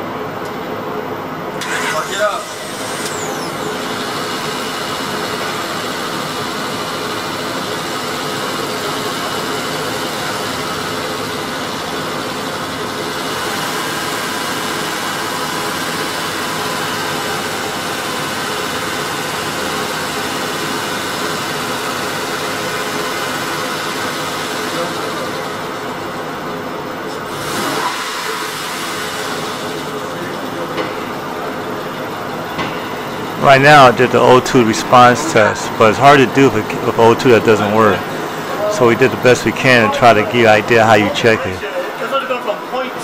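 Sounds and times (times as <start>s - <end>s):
car engine idling: 1.6s - 41.7s.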